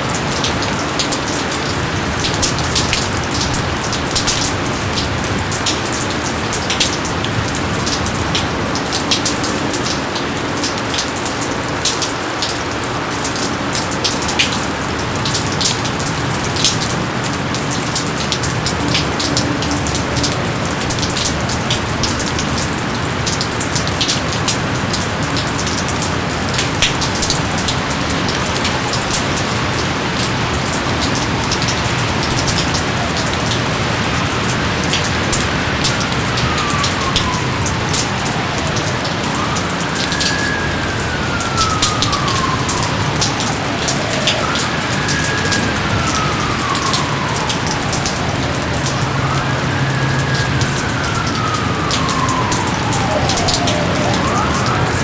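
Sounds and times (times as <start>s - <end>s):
heavy rain on foliage: 0.0s - 55.0s
raindrops striking close by: 0.0s - 55.0s.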